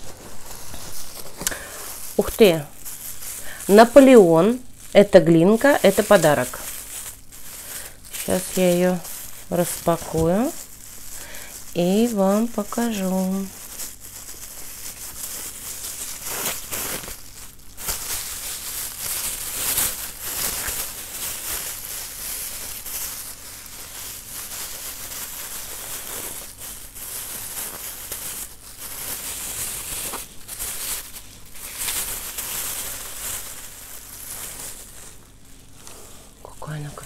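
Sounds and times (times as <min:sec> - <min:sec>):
plastic wrapping crinkling: 0:00.0 - 0:37.0.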